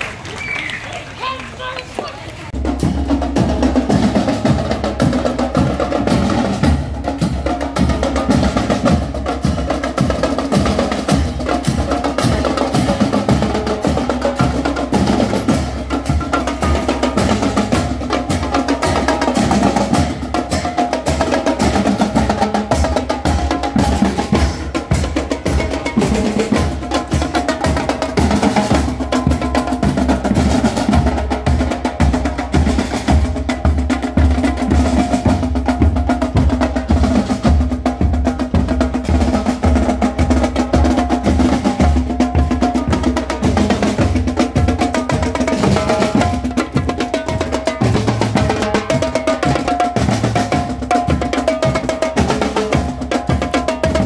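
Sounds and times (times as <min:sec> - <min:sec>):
marching percussion band: 0:00.0 - 0:54.0.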